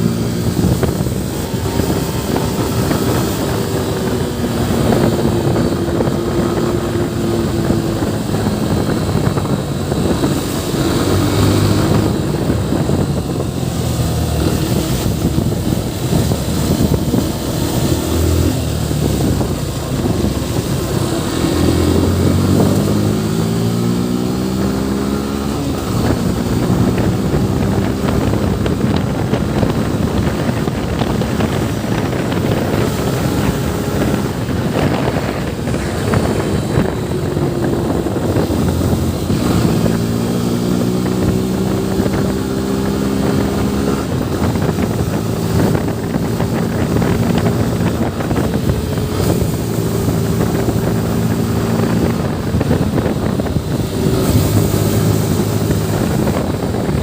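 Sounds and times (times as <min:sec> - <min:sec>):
motorcycle engine accelerating: 0:00.0 - 0:57.0
wind on microphone: 0:00.0 - 0:57.0.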